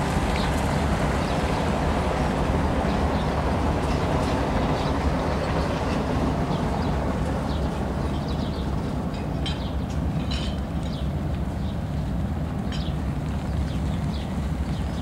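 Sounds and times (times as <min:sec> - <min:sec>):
low port and city rumble: 0:00.0 - 0:15.0.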